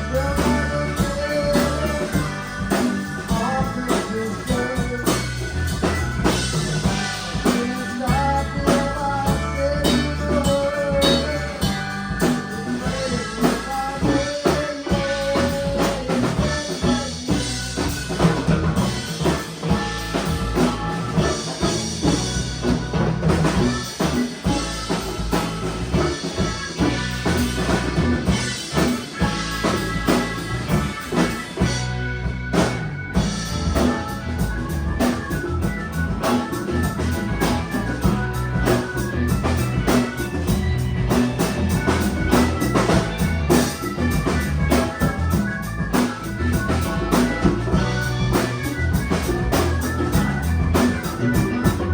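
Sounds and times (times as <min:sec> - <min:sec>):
bass guitar: 0:00.0 - 0:51.9
drum kit steady beat: 0:00.0 - 0:51.9
guitar: 0:00.0 - 0:51.9
wavering melodic lead line: 0:00.0 - 0:51.9.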